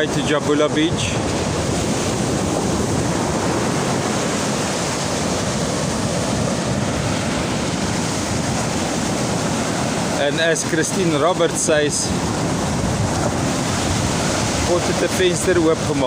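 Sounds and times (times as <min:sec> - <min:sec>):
ocean surf breaking on beach: 0:00.0 - 0:16.0
wind on microphone: 0:00.0 - 0:16.0.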